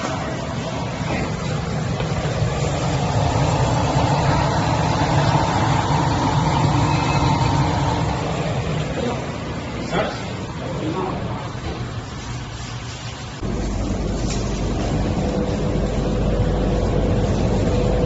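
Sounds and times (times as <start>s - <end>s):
machinery rumbling: 0.0s - 18.0s.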